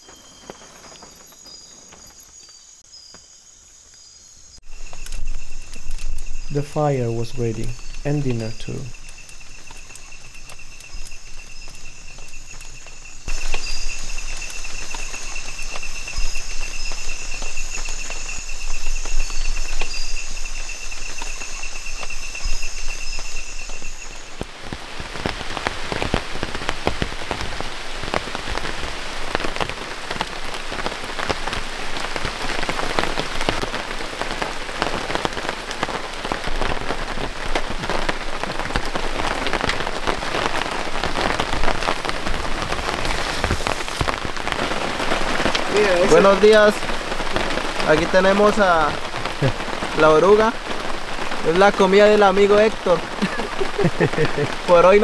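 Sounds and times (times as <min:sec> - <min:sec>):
insects trilling at night: 0:00.0 - 0:24.5, 0:27.8 - 0:55.0
steady rain falling: 0:00.0 - 0:55.0.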